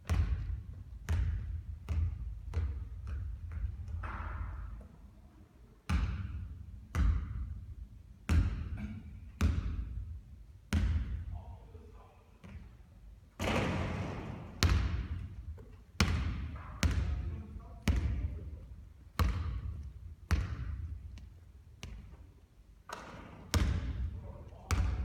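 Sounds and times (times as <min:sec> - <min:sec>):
basketball bouncing on a court: 0:00.0 - 0:04.8, 0:05.9 - 0:11.4, 0:13.4 - 0:22.2, 0:22.9 - 0:25.0.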